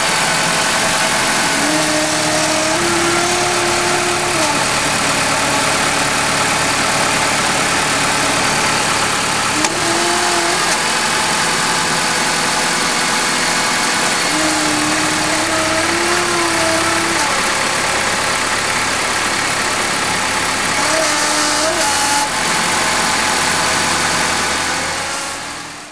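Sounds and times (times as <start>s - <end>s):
car engine idling: 0.0s - 25.9s
humming whine: 0.0s - 25.9s.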